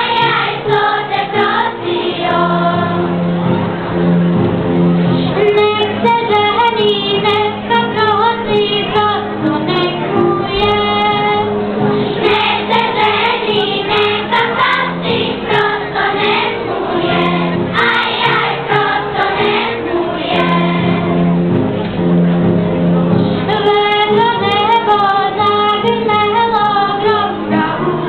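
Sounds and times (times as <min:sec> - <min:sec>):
children's choir singing: 0:00.0 - 0:03.8, 0:05.4 - 0:21.5, 0:23.5 - 0:28.0
held low accompanying notes: 0:00.0 - 0:28.0.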